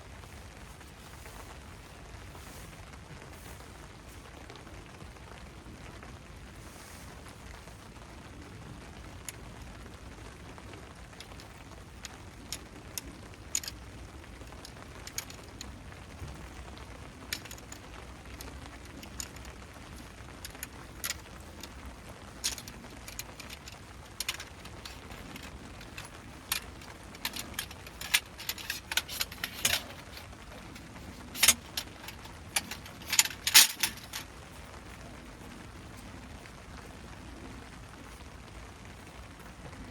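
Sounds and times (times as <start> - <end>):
camping gear clicking and clinking: 0.0 - 5.4, 8.8 - 39.9
steady rain: 0.0 - 39.9.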